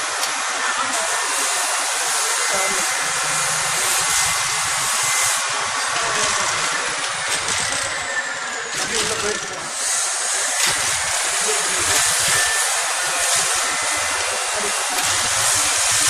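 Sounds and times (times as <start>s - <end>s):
petrol engine running steadily: 0.2s - 16.0s.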